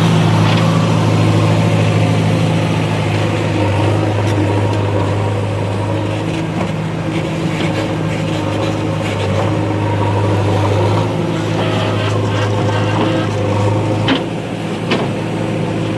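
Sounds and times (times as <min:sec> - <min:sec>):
heavy vehicle engine humming: 0:00.0 - 0:15.9.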